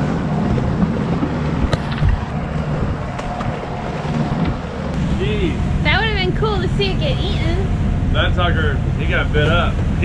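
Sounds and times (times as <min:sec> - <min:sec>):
wind rushing: 0:00.0 - 0:08.1
churning wake water: 0:00.0 - 0:10.0
low rumble: 0:00.0 - 0:10.0.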